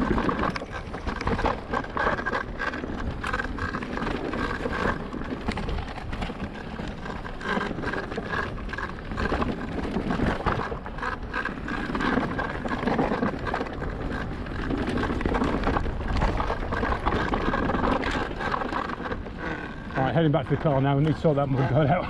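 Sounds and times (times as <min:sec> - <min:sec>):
bike rattles and knocks: 0:00.0 - 0:22.0
tyres rolling on trail: 0:00.0 - 0:22.0
wind buffeting microphone: 0:00.0 - 0:22.0.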